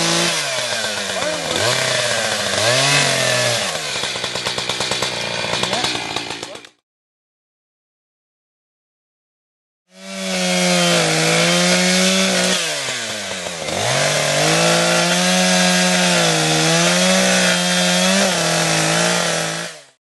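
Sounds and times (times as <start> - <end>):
chainsaw cutting wood: 0.0 - 6.8, 9.9 - 20.0.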